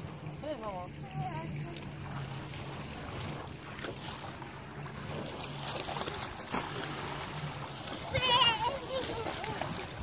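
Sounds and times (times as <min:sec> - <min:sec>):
water lapping at shore: 0:00.0 - 0:10.0
wind: 0:00.0 - 0:10.0.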